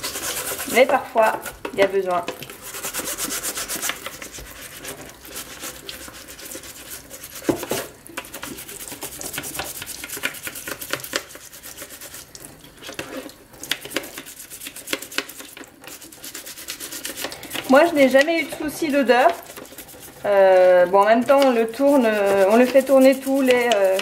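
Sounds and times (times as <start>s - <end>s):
running tap water: 0.0s - 24.0s
toothbrush scrubbing plastic: 0.0s - 24.0s.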